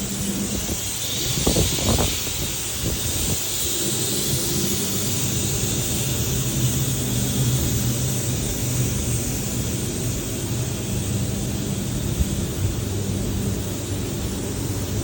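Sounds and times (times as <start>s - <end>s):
constant hiss: 0.0s - 15.0s
low machinery hum: 0.0s - 15.0s.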